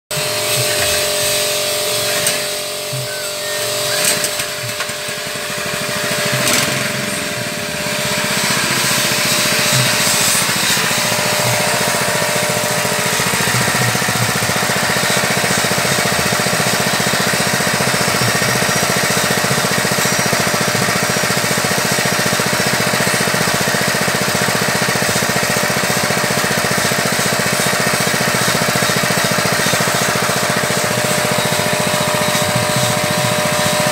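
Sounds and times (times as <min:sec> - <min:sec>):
small petrol engine running: 0:00.1 - 0:33.9
engine knocks: 0:04.0 - 0:33.9.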